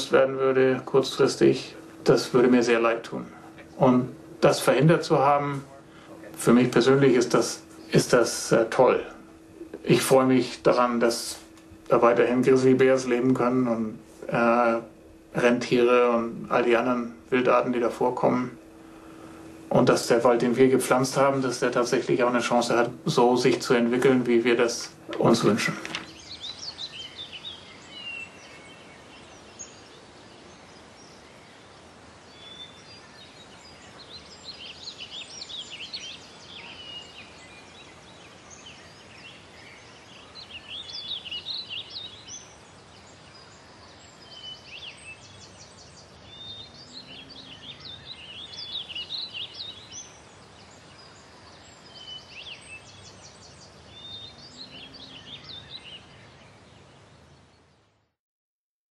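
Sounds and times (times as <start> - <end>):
steady background hiss: 0.0 - 58.1
songbirds chirping and trilling: 0.0 - 58.2.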